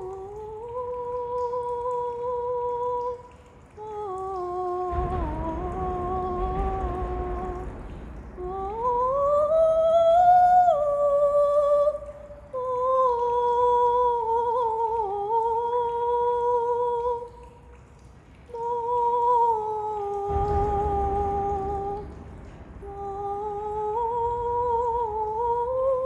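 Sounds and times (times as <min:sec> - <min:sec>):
high voice singing wordless vocalise: 0:00.0 - 0:17.6, 0:18.5 - 0:26.0.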